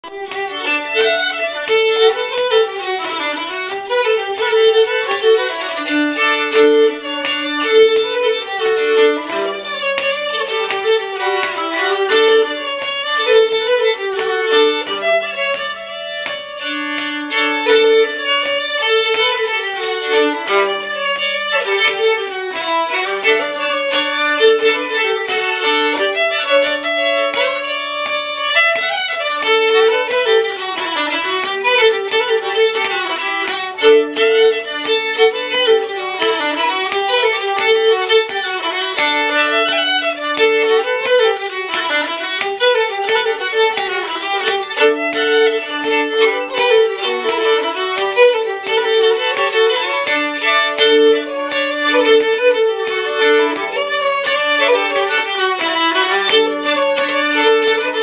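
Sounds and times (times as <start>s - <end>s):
two violins playing a dance tune: 0.0s - 58.0s.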